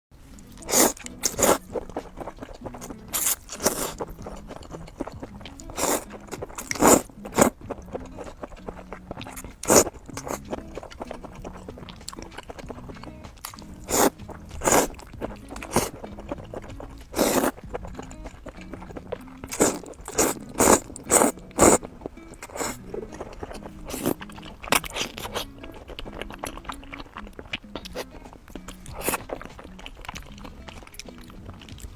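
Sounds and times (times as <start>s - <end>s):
chewing clicks: 0.4s - 31.9s
crisp food crunching: 0.4s - 31.9s.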